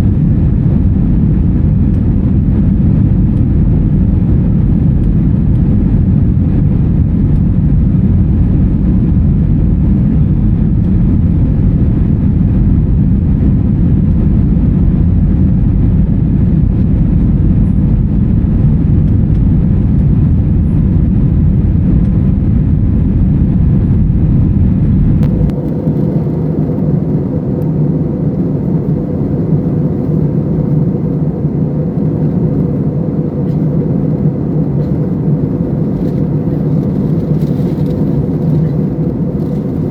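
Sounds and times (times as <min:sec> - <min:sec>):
airliner cabin roar: 0:00.0 - 0:39.9
steady hum: 0:00.0 - 0:39.9.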